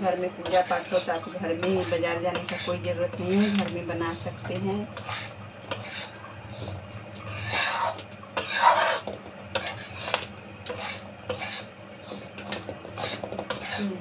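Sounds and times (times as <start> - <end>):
metal spatula scraping dry mix: 0.4 - 3.8, 5.0 - 14.0.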